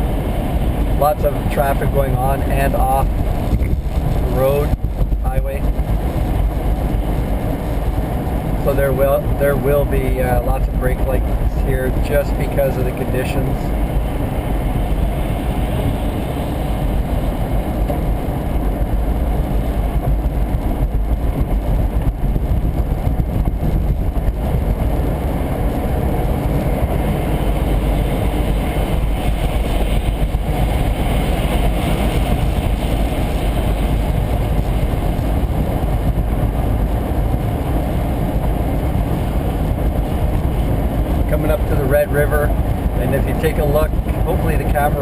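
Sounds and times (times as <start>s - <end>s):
car engine running: 0.0s - 45.0s.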